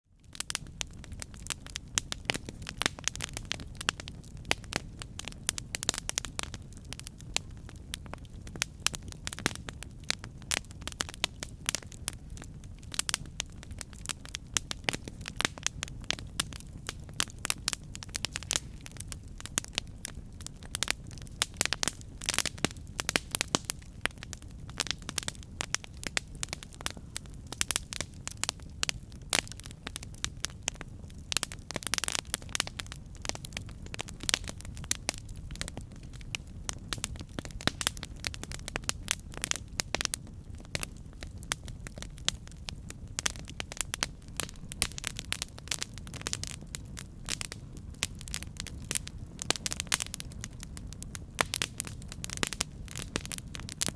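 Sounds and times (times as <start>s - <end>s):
campfire crackling and popping: 0.2s - 53.9s.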